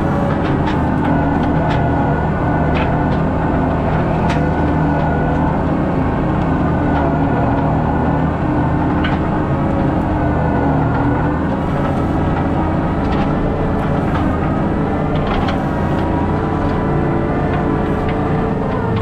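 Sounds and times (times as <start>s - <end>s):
diesel engine running: 0.0s - 19.0s
machine knocks and clanks: 0.0s - 19.0s.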